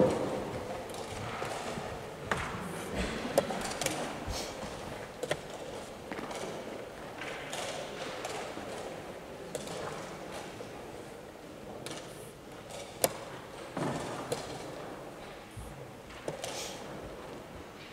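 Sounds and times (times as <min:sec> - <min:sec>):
room background noise: 0:00.0 - 0:17.9.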